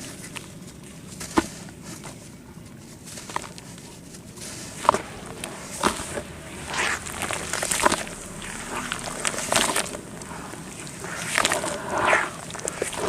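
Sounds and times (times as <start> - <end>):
dirt crumbling by hand: 0.0 - 13.0.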